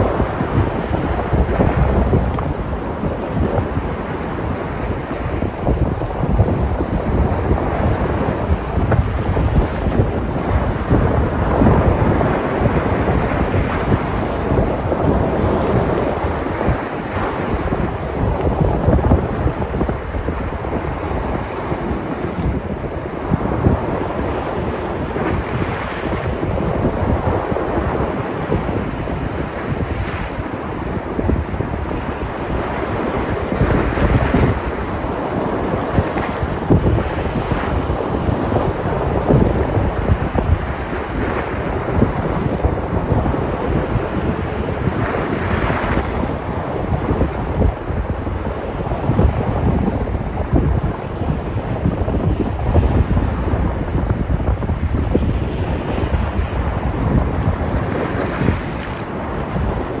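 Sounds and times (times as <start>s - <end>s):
waves breaking: 0.0s - 60.0s
wind buffeting microphone: 0.0s - 60.0s.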